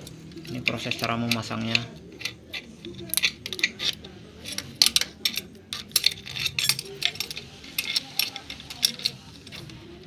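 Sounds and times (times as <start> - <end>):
metal parts clicking: 0.0 - 10.0.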